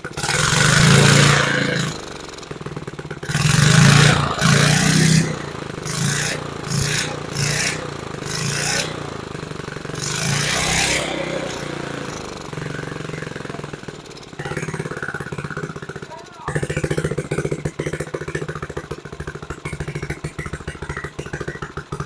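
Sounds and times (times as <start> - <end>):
small mower engine running: 0.0 - 22.0.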